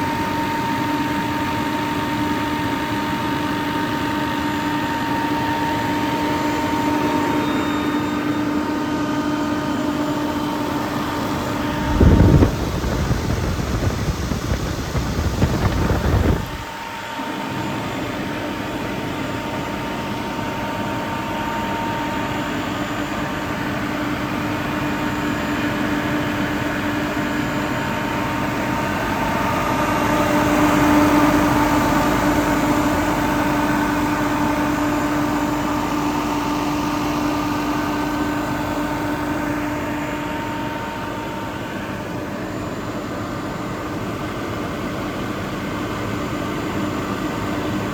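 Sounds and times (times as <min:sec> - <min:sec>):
air compressor low rumble: 0:00.0 - 0:47.9
air compressor steady hum: 0:00.0 - 0:47.9.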